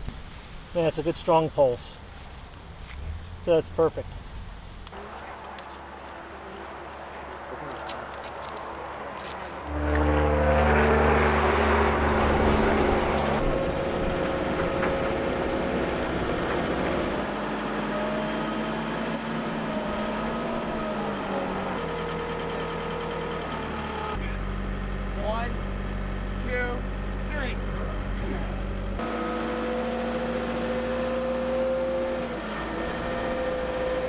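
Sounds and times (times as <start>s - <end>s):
front loader engine running: 4.8s - 34.0s.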